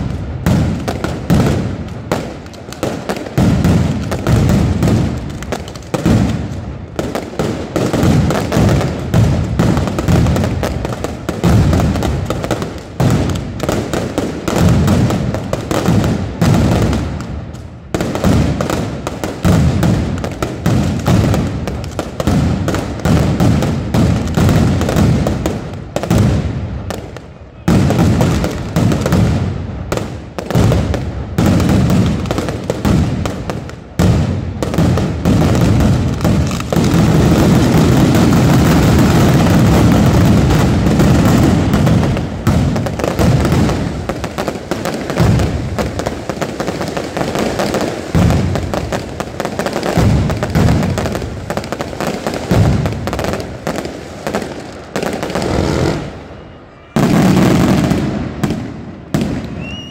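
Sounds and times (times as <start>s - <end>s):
firecrackers exploding in volleys: 0.0s - 59.9s.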